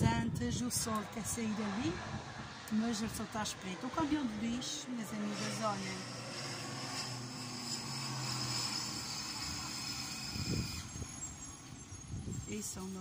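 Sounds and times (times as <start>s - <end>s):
low rumble: 0.0s - 12.7s
wind on microphone: 0.0s - 13.0s.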